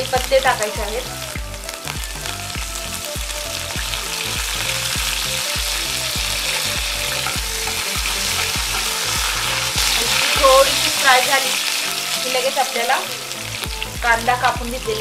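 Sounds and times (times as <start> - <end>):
background music with beat: 0.0 - 15.0
hot oil sizzling: 0.0 - 15.0
spatula stirring: 1.4 - 14.1.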